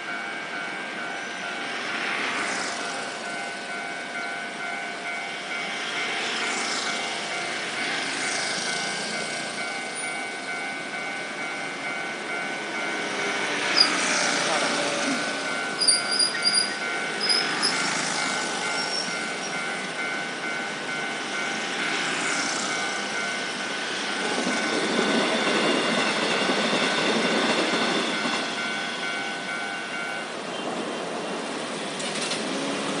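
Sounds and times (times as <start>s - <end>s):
passing train rumble: 0.0s - 33.0s.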